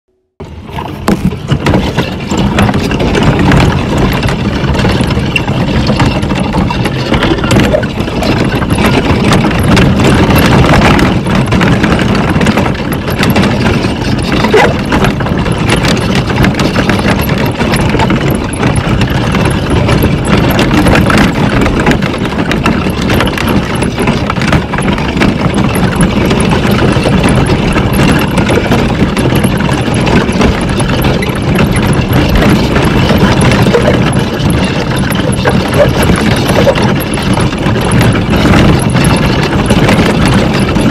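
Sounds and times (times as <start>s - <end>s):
wind: 0.1s - 40.9s
wooden cart wheels rumbling on dirt: 0.4s - 40.9s.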